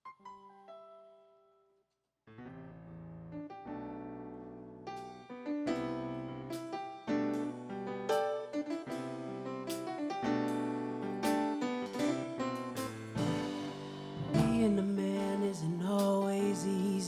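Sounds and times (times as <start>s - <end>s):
piano chords on keyboard: 2.4s - 17.0s.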